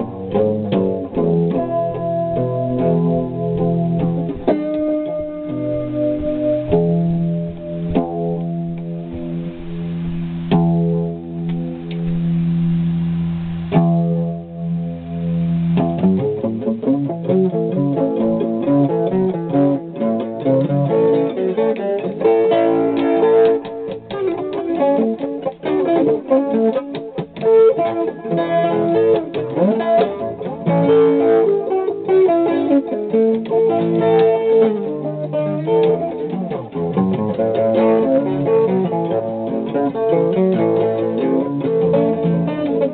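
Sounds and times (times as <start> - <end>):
guitar chords strummed: 0.0 - 42.9
picked guitar notes: 0.0 - 42.9.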